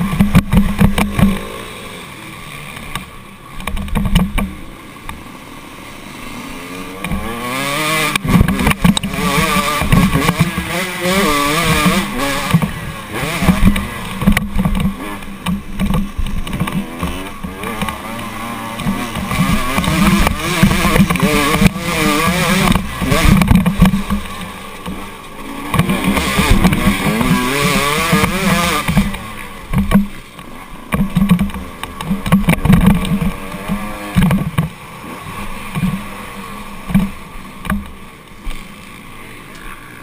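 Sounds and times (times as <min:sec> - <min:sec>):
dirt bike engines revving: 0:00.0 - 0:40.0.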